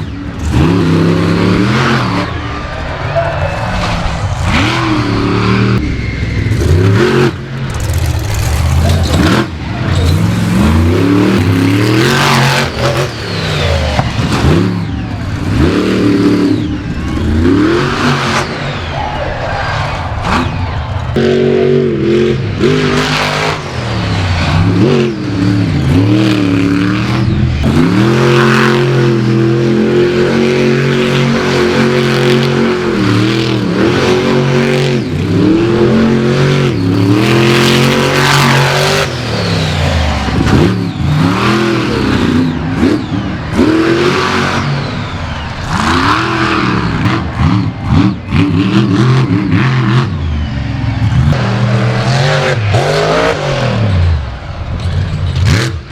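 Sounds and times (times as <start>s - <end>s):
monster truck engine revving: 0.0s - 55.9s.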